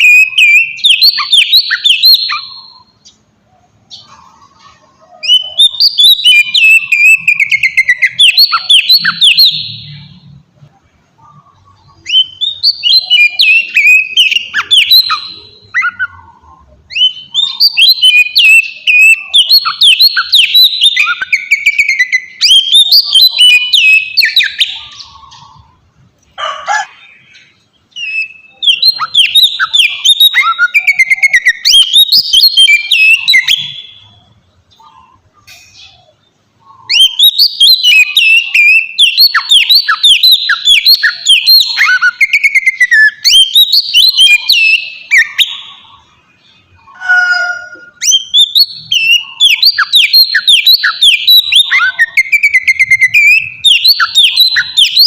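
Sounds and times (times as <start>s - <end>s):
harsh falling bird calls: 0.0s - 55.0s
magpie-robin singing: 0.0s - 55.0s.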